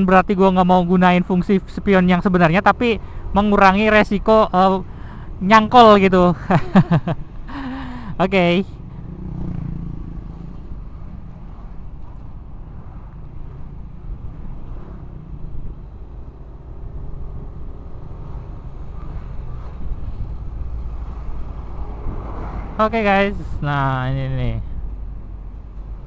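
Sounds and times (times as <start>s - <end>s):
road rumble: 0.0s - 26.0s.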